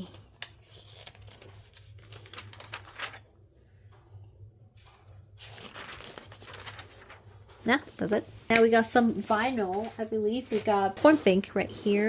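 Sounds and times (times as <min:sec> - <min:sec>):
magazine pages rustling: 0:00.0 - 0:04.0, 0:04.8 - 0:12.0.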